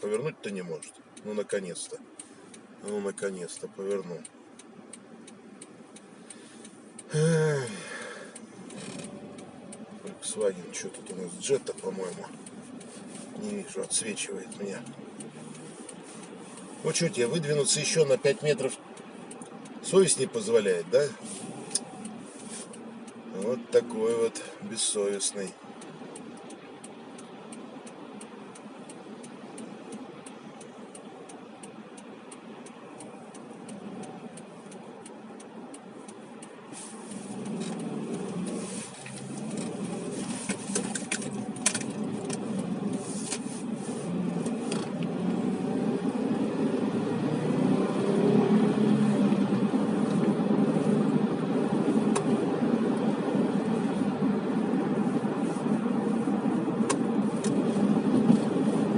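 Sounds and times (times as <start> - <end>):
car engine and road noise: 0.0 - 58.9
turn signal ticking: 0.0 - 58.9.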